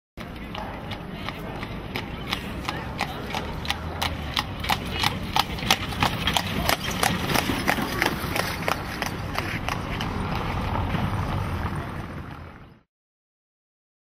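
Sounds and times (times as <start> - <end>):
hooves clip-clopping on cobblestones: 0.2 - 12.7.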